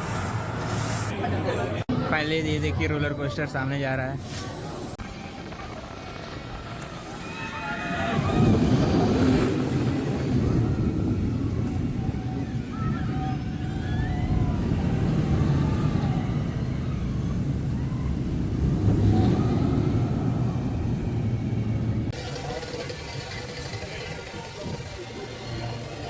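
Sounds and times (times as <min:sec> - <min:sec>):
roller coaster rumbling on track: 0:00.0 - 0:26.0.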